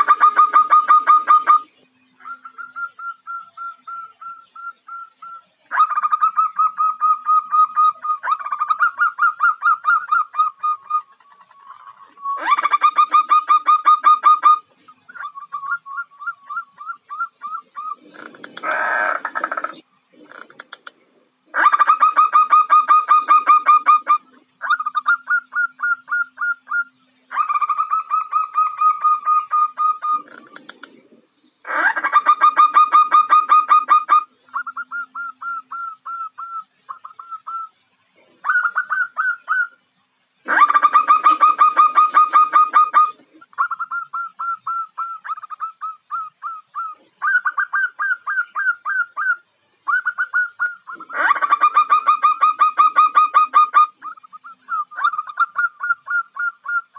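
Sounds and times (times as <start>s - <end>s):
dove pulsed call notes: 0.0s - 56.9s.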